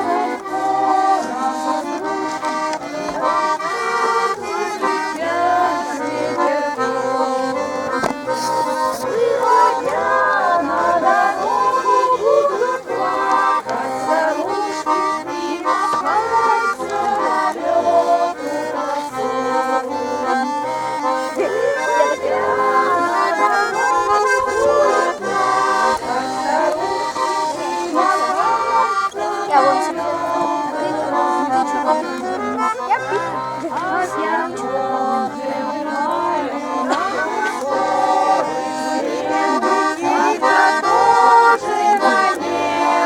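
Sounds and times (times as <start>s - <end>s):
button accordion playing a tune: 0.0s - 43.0s.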